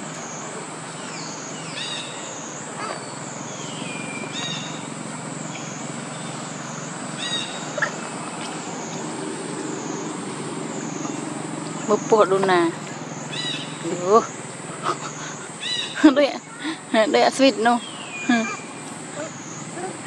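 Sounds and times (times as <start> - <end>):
insect drone: 0.0 - 20.0
steady low hum: 0.0 - 20.0.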